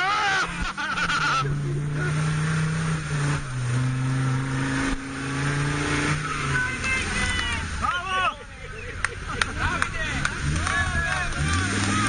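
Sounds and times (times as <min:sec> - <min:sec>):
engine revving high: 0:00.0 - 0:07.8, 0:10.1 - 0:12.0.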